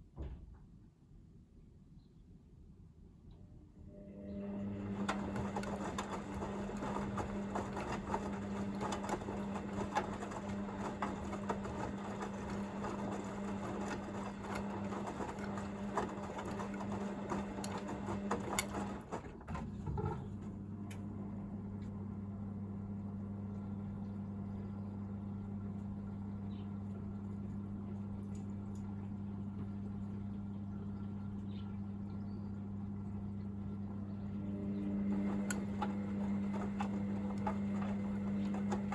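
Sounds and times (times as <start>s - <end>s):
motor hum: 3.6s - 38.9s
drain pump humming: 3.9s - 38.9s.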